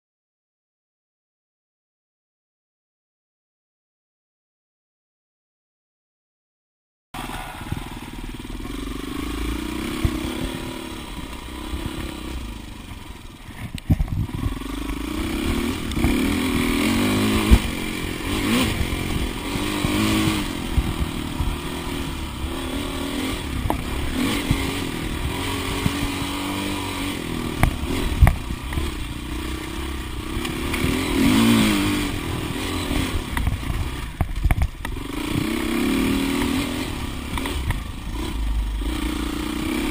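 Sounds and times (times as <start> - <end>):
dirt bike engine revving: 7.2 - 39.9.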